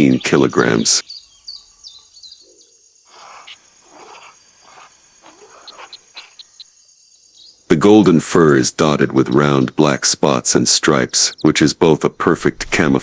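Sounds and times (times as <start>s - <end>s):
high bird chirps: 0.0s - 11.6s
soft repeated animal calls: 0.0s - 12.3s
high insect drone: 0.0s - 13.0s.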